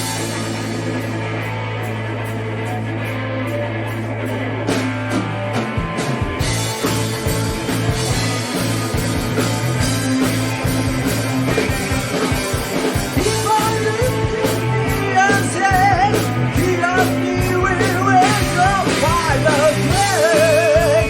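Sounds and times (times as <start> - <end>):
bass guitar: 0.0 - 21.0
distorted electric guitar: 0.0 - 21.0
drums driving beat: 0.0 - 21.0.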